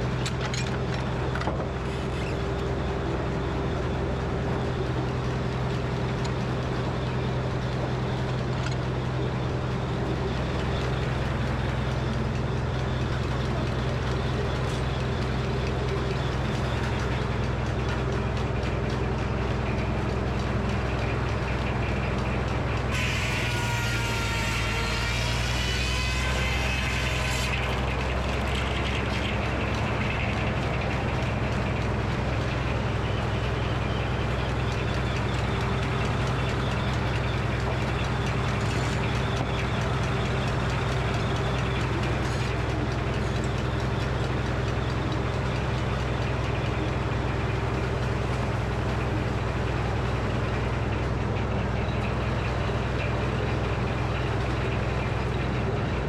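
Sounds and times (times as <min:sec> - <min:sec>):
circular saw blade whine: 0:00.0 - 0:56.0
power unit low drone: 0:00.0 - 0:56.0.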